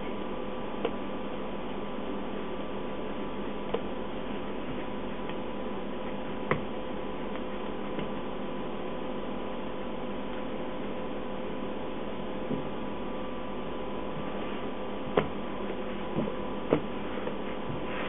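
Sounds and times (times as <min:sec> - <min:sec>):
kitchen equipment hum and hiss: 0:00.0 - 0:18.0.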